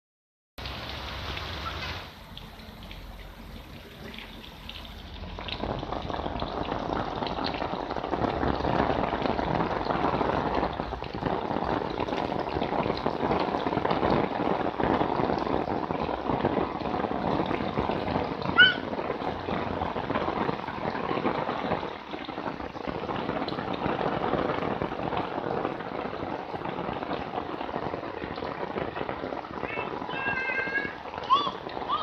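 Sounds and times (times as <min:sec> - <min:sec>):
rain falling: 0:00.6 - 0:32.0.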